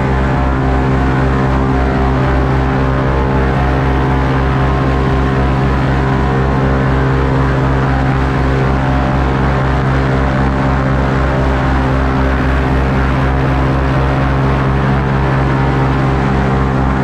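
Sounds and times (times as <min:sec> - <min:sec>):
airboat engine and propeller: 0:00.0 - 0:17.0.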